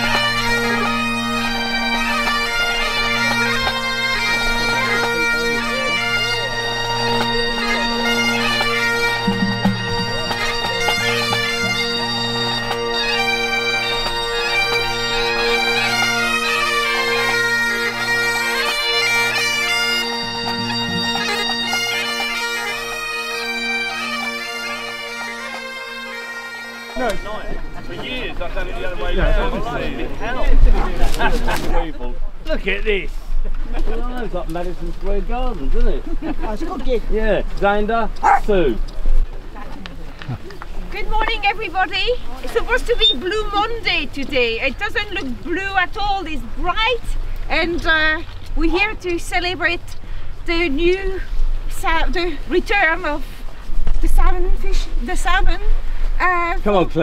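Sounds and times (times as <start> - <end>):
bagpipes playing: 0.0 - 31.3, 40.0 - 56.8.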